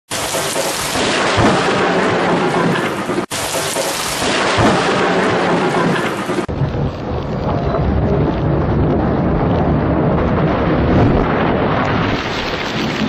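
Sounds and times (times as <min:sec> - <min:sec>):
heavy rain pouring: 0:00.1 - 0:13.0
thunder rumbling: 0:00.1 - 0:13.0.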